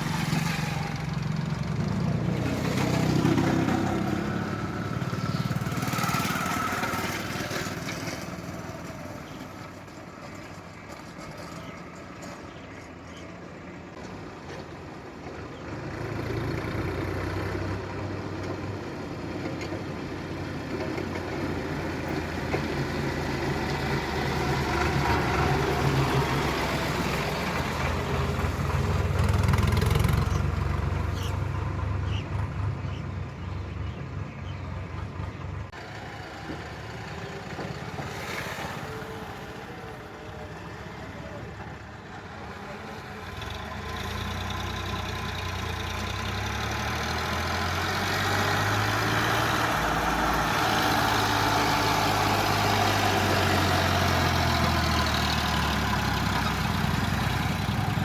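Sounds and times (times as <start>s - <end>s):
diesel engine revving: 0.0s - 10.1s, 15.0s - 58.0s.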